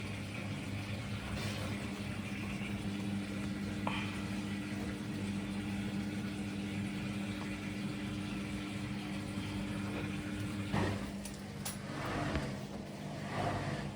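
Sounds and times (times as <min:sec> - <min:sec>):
washing machine spinning: 0:00.0 - 0:13.9.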